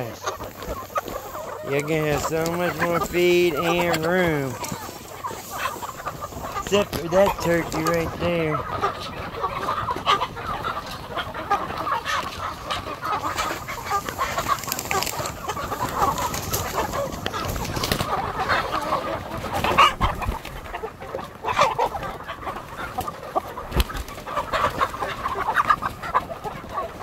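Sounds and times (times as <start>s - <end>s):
chickens clucking: 0.0s - 27.0s
loud chicken calls: 0.0s - 27.0s.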